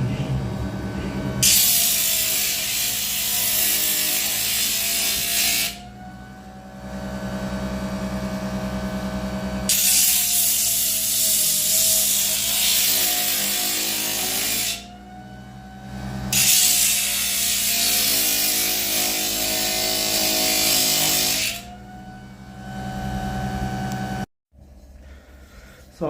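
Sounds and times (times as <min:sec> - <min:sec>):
die grinder whining: 0:00.0 - 0:24.3.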